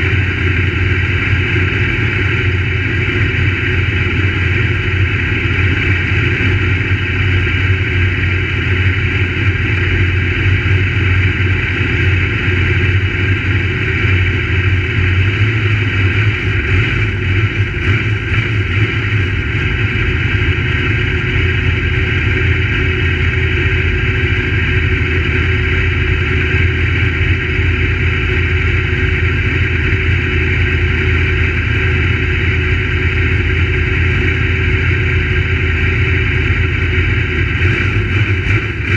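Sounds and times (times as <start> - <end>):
race car engines droning: 0.0 - 38.9.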